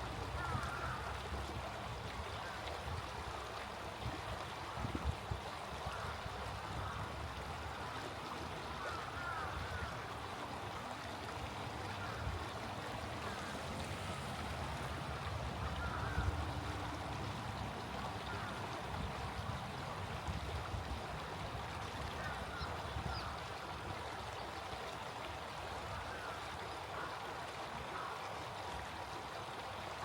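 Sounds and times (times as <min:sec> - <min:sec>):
small stream flowing: 0:00.0 - 0:30.0.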